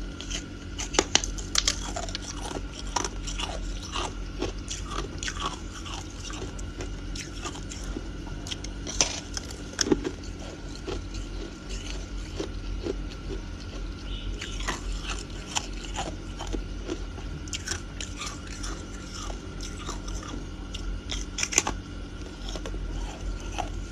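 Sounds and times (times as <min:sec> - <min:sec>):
faint steady hum: 0:00.0 - 0:23.9
ice crunching being chewed: 0:00.1 - 0:23.9.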